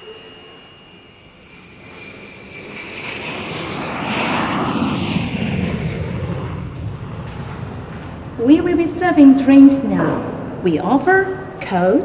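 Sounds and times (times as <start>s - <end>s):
airliner taking off: 0.0s - 12.0s.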